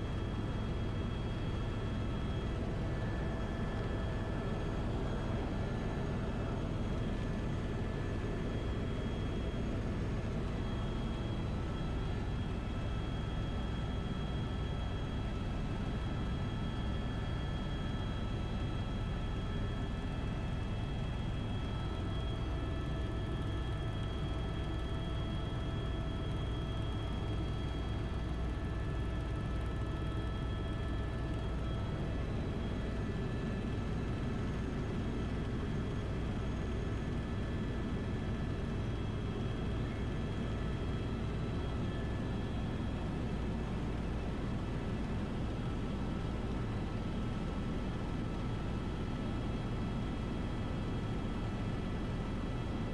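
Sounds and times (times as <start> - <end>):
helicopter engine and rotor drone: 0.0 - 52.9.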